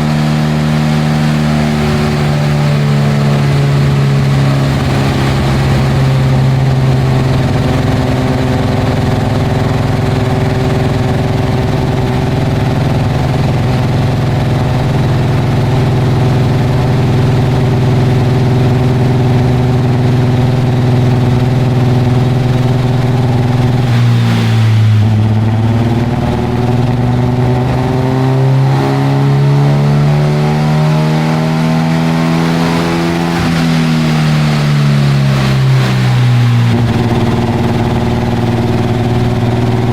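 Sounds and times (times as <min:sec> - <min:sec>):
car engine revving on a dyno: 0:00.0 - 0:39.9.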